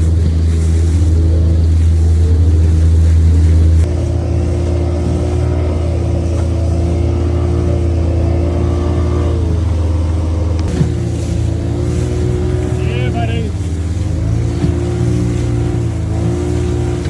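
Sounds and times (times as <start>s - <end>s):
motorboat engine drone: 0.0s - 17.0s.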